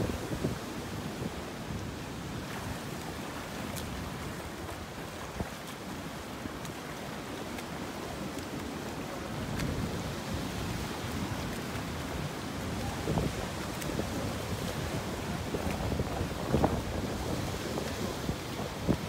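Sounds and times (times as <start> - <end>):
wind buffeting microphone: 0.0 - 5.7, 9.1 - 19.0
sea surf washing: 0.0 - 19.0
faint splashes: 2.3 - 19.0.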